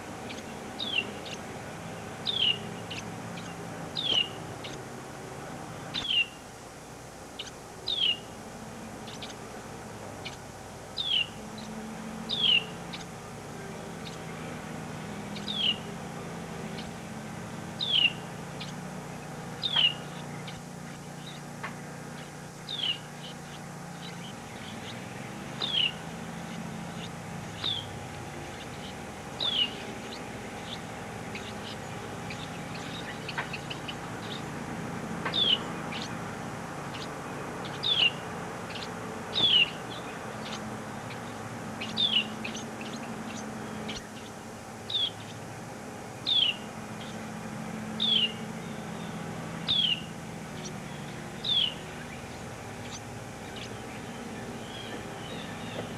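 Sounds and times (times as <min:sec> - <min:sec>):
bird calling: 0:00.0 - 0:06.5, 0:07.2 - 0:55.9
low background hum: 0:00.0 - 0:55.9.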